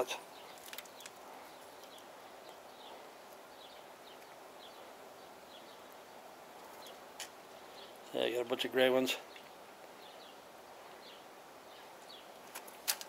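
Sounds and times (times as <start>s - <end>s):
bird chirps: 0.0s - 12.4s.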